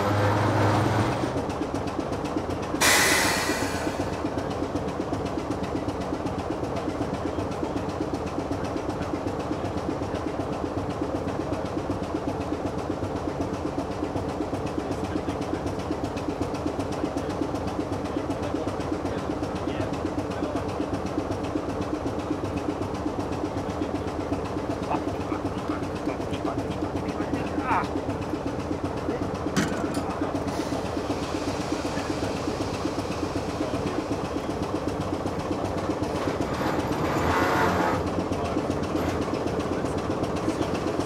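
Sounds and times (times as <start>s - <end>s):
diesel locomotive engine droning: 0.0s - 41.0s.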